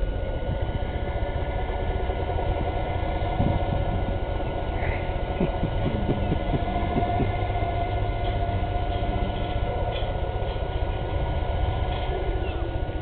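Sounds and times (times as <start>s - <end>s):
boat diesel engine running: 0.0s - 13.0s
high steady whine: 0.0s - 13.0s.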